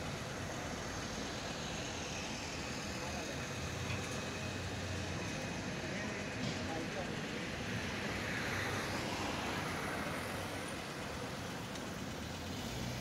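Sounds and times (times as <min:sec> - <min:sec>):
cars driving past: 0:02.4 - 0:13.0.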